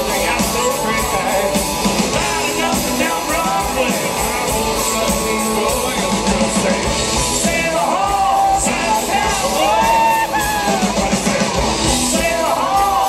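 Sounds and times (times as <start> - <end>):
country rock band playing: 0.0 - 13.0
drum kit: 0.0 - 13.0
electric guitars: 0.0 - 13.0.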